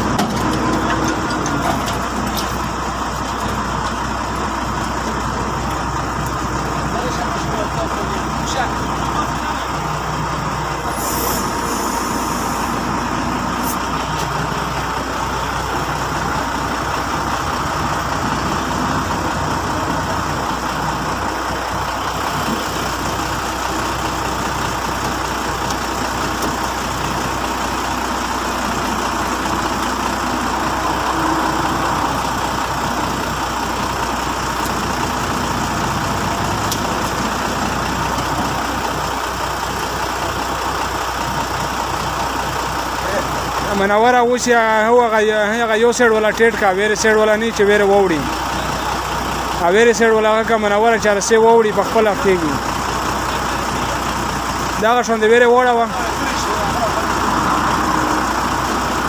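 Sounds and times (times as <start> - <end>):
large vehicle engine running: 0.0 - 59.0.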